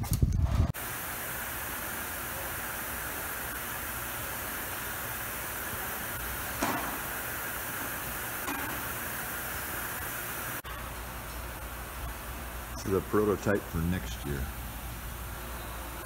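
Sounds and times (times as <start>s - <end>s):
workshop room tone hiss: 0.7s - 16.0s.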